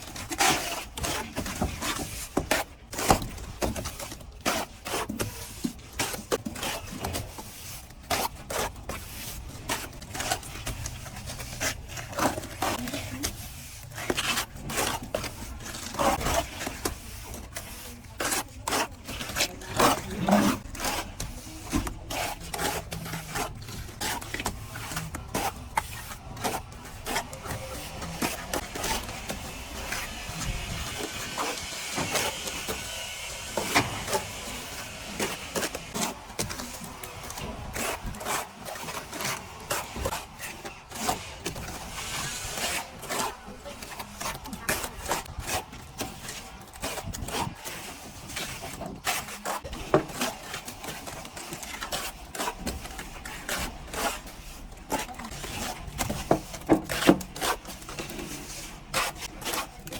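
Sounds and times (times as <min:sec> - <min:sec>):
plastering tools scraping: 0:00.0 - 0:59.9.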